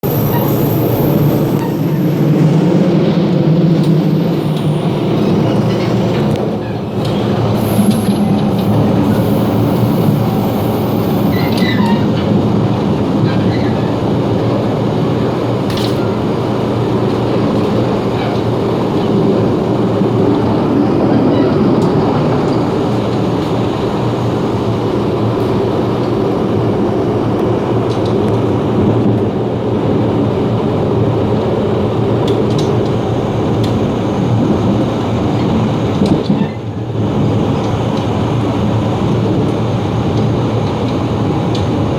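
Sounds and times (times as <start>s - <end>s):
train running rumble: 0.0s - 41.9s.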